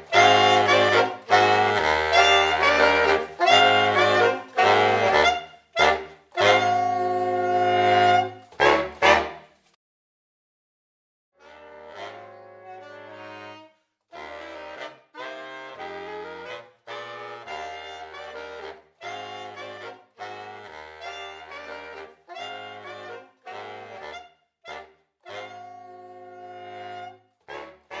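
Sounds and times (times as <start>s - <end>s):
saxophone ensemble playing jazz: 0.0s - 9.5s, 11.4s - 28.0s.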